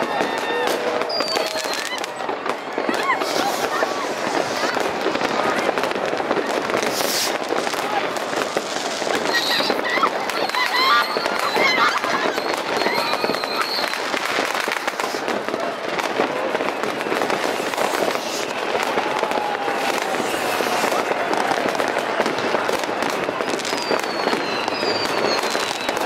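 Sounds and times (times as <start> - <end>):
falling firework whistle: 0.0 - 26.0
fireworks crackling and popping: 0.0 - 26.0.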